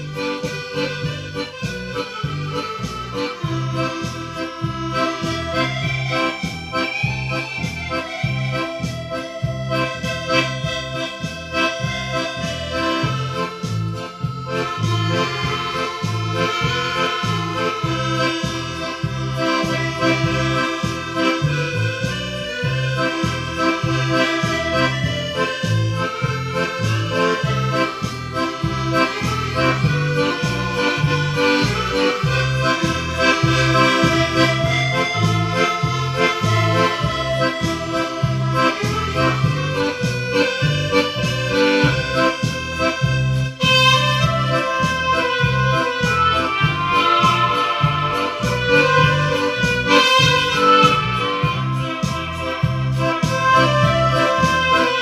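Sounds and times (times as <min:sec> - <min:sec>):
accordion playing lively tune: 0:00.0 - 0:55.0
steady bass beat: 0:00.0 - 0:55.0.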